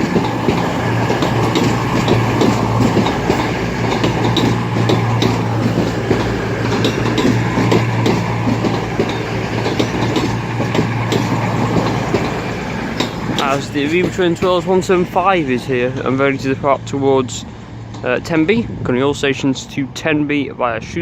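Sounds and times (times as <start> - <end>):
wheels clicking over rail joints: 0.0 - 18.4
train engine hum: 0.0 - 21.0.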